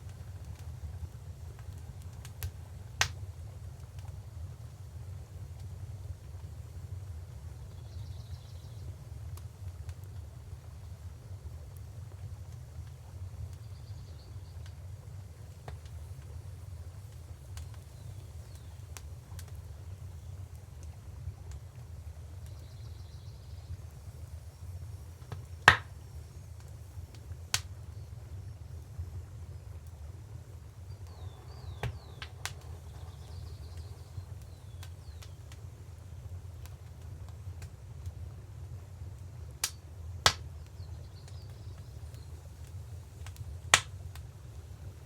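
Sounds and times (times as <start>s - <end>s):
fire popping: 0.0s - 45.0s
low steady rumble: 0.0s - 45.0s
wood fire crackling: 0.0s - 45.0s.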